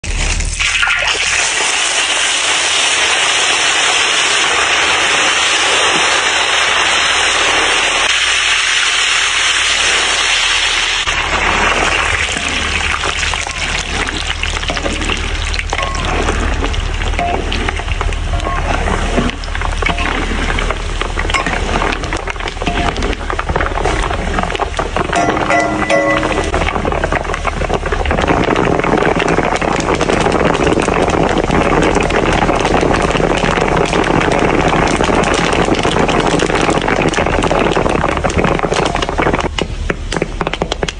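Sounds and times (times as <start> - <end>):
mixture bubbling in a wok: 0.0 - 40.9.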